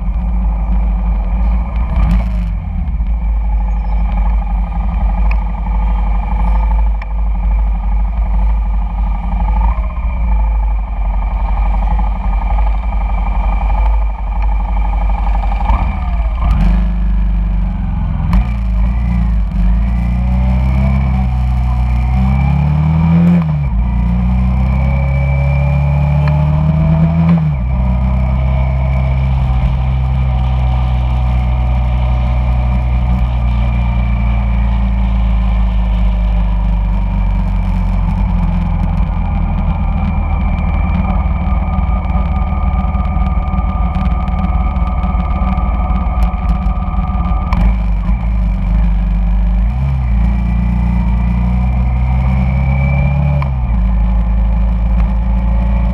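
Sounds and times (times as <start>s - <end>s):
motorcycle engine pulling away: 0.0s - 55.9s.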